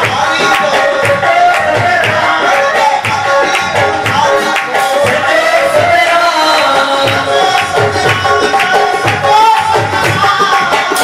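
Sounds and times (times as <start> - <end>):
hymn sung into microphones: 0.0 - 11.0
tabla drumming: 0.0 - 11.0.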